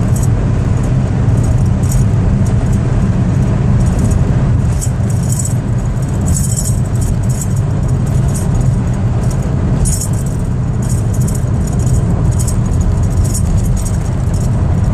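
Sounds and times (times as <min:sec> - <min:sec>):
car engine and road rumble: 0:00.0 - 0:14.9
light jingling rattles: 0:00.0 - 0:14.9.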